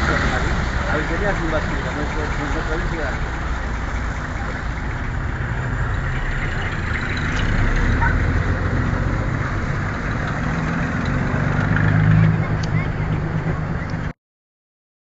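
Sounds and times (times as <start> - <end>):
motor vehicle engine humming: 0.0 - 14.1
road noise: 0.0 - 14.2.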